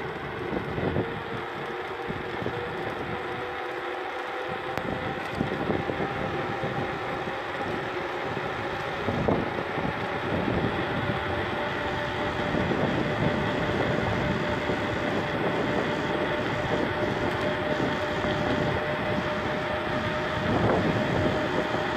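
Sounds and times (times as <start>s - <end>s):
tyre and wind noise: 0.0s - 3.6s, 4.4s - 21.9s
droning two-tone hum: 0.0s - 21.9s.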